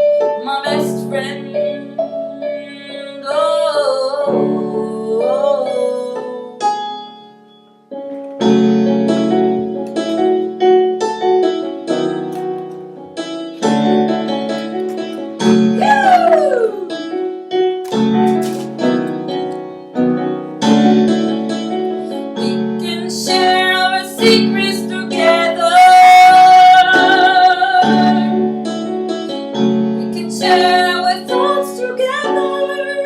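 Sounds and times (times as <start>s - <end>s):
electronic keyboard playing chords: 6.4s - 33.0s.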